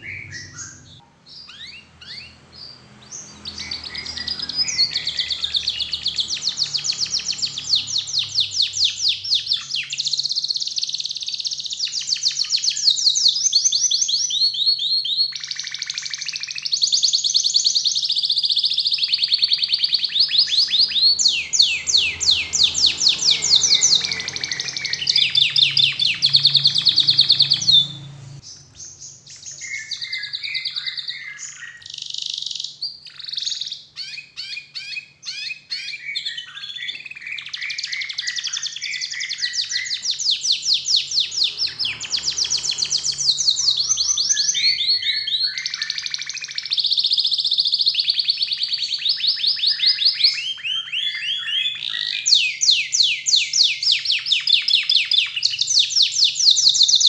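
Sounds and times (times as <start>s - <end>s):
canary singing rapid trills: 0.0s - 57.0s.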